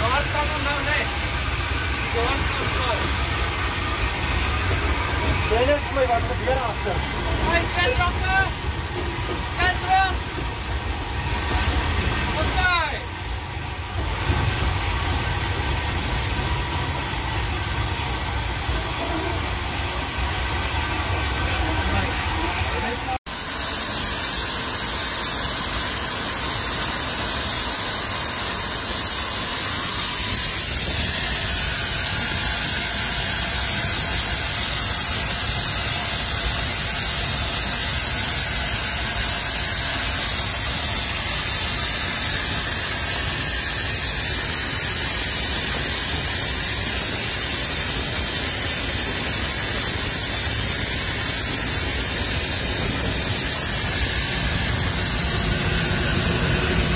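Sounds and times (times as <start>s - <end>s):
steam hissing: 0.0s - 56.9s.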